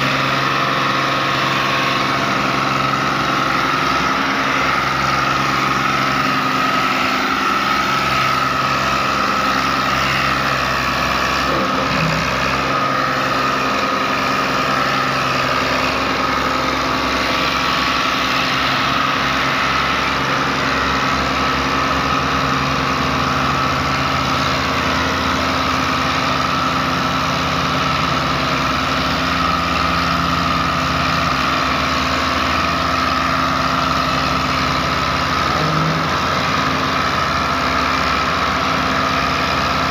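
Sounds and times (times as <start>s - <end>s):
diesel tractor engine under load: 0.0s - 39.9s.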